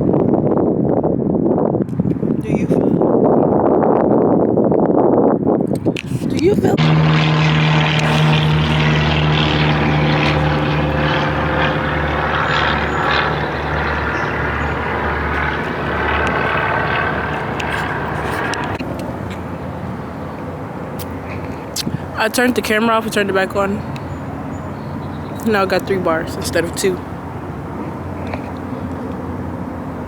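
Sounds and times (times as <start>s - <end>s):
propeller airplane engine drone: 5.4s - 30.0s.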